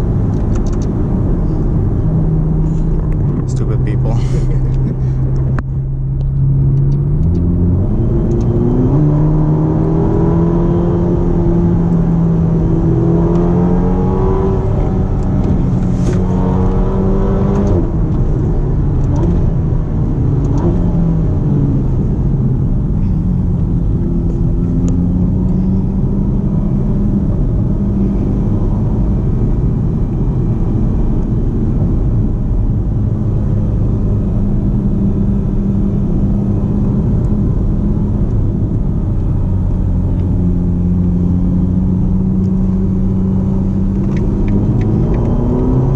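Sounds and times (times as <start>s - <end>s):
car engine accelerating: 0.0s - 45.9s
road rumble: 0.0s - 45.9s.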